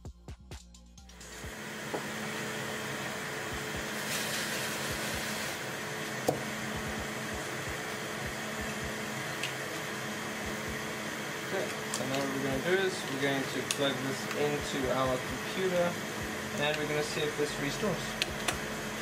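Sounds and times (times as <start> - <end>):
extractor fan humming: 1.1 - 19.0.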